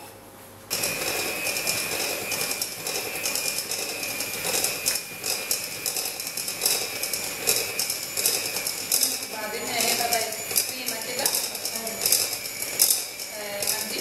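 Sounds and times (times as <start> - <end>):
beaters rattling in bowl: 0.7 - 14.0
electric hand mixer whining: 0.7 - 14.0.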